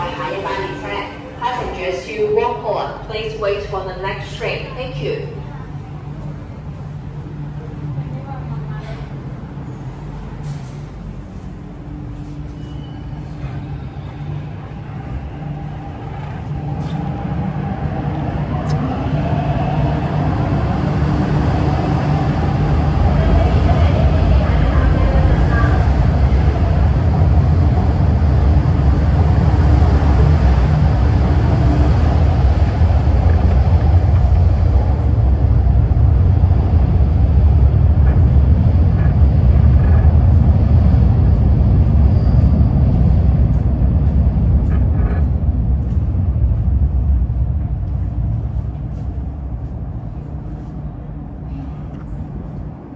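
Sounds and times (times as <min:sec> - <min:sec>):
train low rumble: 0:00.0 - 0:52.9.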